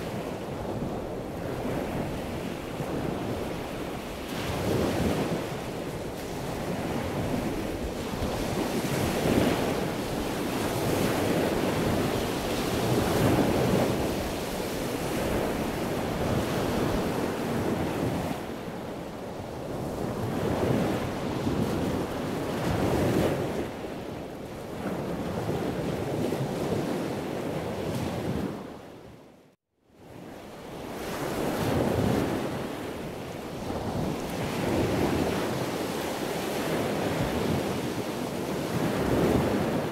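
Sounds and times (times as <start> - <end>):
wind buffeting microphone: 0.0 - 28.9, 30.8 - 39.9.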